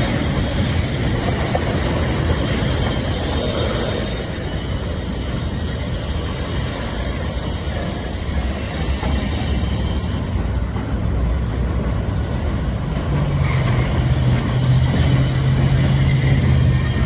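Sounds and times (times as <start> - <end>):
high wheel squeal: 0.0 - 11.4, 13.2 - 17.0
rumble of train wheels on rails: 0.0 - 17.0.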